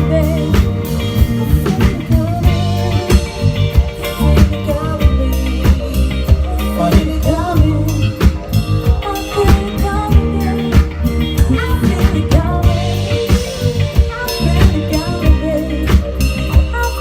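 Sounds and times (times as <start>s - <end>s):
bass line: 0.0s - 17.0s
drum kit beat: 0.0s - 17.0s
person singing: 0.0s - 17.0s.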